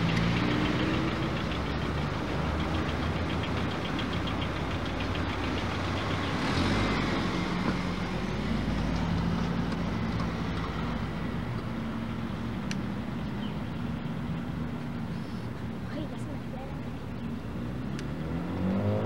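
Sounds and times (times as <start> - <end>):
car engine pulling away: 0.0 - 19.0
street traffic noise: 0.0 - 19.0.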